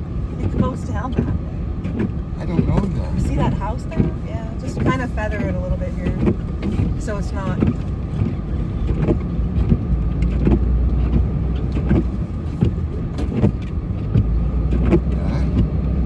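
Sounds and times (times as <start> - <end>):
snowplow engine droning: 0.0 - 16.0
short knocks and thumps: 0.4 - 15.8.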